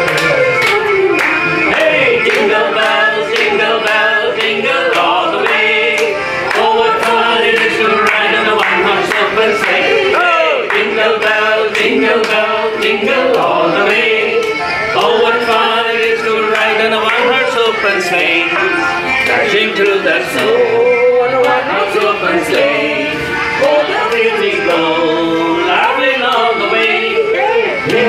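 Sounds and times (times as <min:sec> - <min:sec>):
voices singing over a beat: 0:00.0 - 0:28.0.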